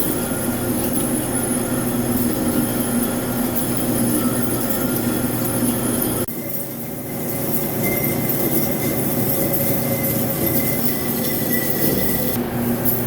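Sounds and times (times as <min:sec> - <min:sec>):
lathe machining noise: 0:00.0 - 0:13.0
thin high-pitched tone: 0:00.0 - 0:13.0.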